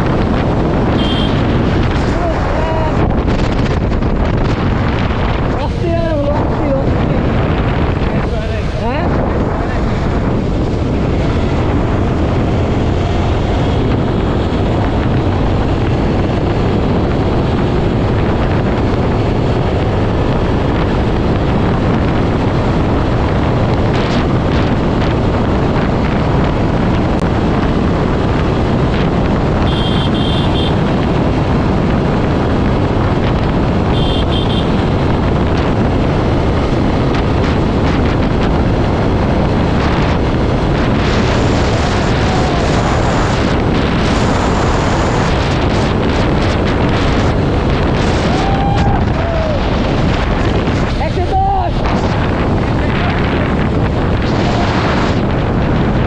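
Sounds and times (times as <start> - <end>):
motorcycle engine: 0.0 - 56.0
road noise: 0.0 - 56.0
wind rushing over microphone: 0.0 - 56.0.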